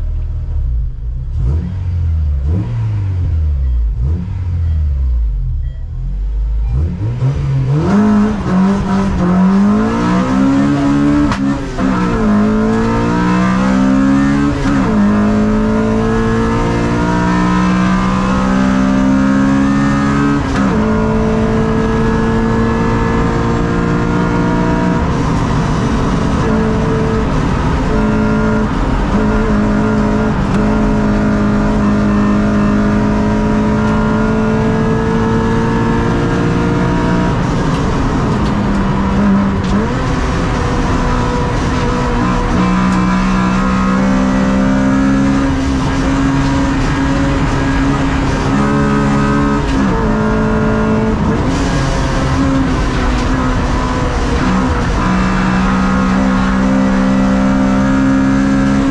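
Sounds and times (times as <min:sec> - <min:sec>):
race car engine revving from cabin: 0:00.6 - 0:58.9.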